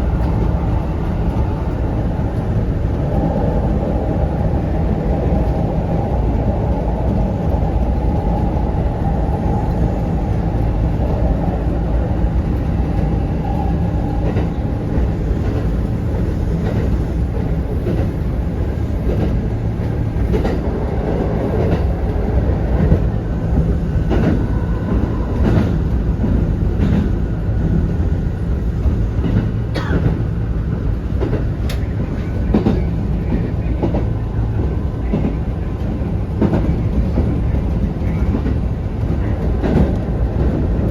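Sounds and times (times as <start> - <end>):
electric train rumble and whine: 0.0 - 40.9.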